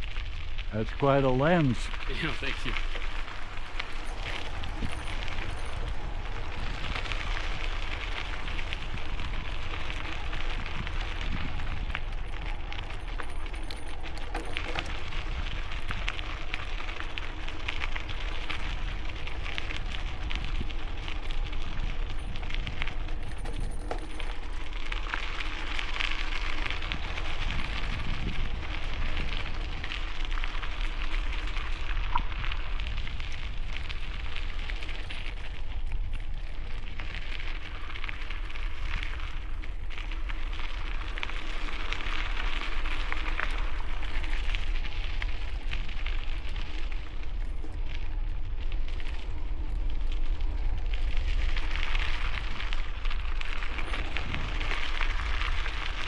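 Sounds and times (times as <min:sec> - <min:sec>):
bicycle tyres crunching gravel: 0:00.0 - 0:56.0
wind rumble on microphone: 0:00.0 - 0:56.0.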